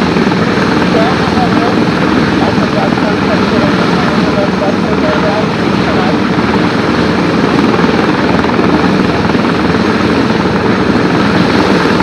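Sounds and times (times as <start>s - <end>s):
helicopter rotor and turbine noise: 0.0s - 12.0s.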